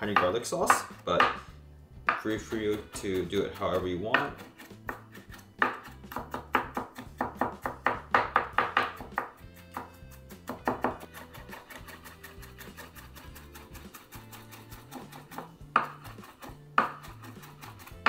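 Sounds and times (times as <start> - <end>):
background music with bass: 0.0 - 18.0
knife chopping on cutting board: 0.0 - 18.0.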